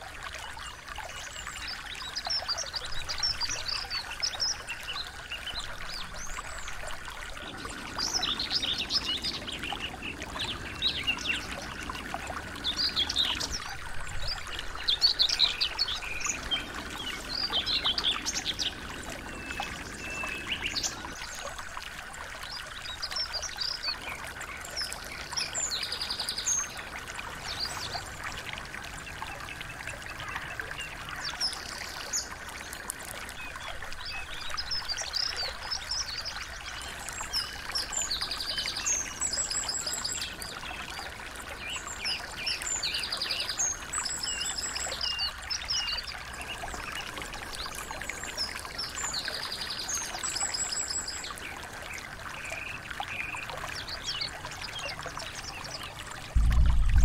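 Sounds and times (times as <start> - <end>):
stream trickling: 0.0 - 57.0
songbirds singing: 0.4 - 56.9.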